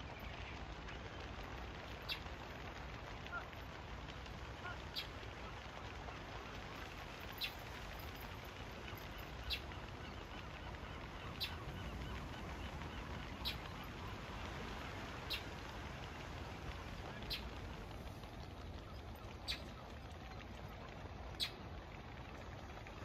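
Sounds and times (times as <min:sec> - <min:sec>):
seabirds calling: 0:00.0 - 0:23.0.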